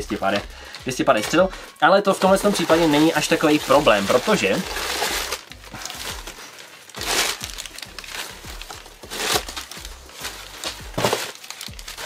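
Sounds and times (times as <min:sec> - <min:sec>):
paper rustling and crumpling: 0:00.0 - 0:12.0.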